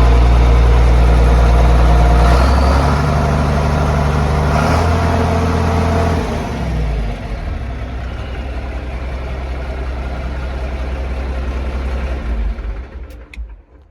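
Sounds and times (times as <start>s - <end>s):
tractor diesel engine idling: 0.0s - 13.9s.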